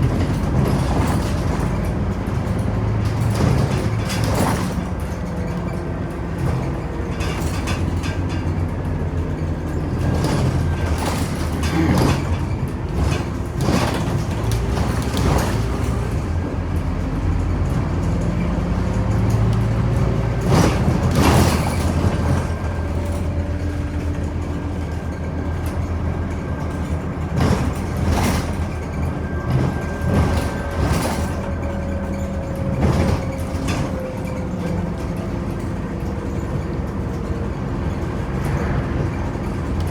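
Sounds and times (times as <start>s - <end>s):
bus engine drone: 0.0s - 39.9s
knocks and rattles from bus body: 0.0s - 39.9s.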